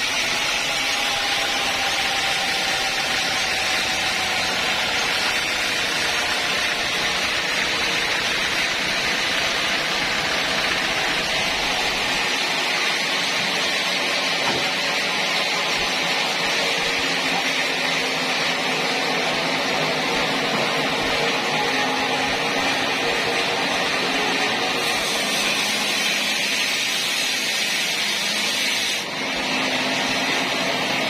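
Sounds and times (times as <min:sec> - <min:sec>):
sawmill saw cutting log: 0:00.0 - 0:31.0.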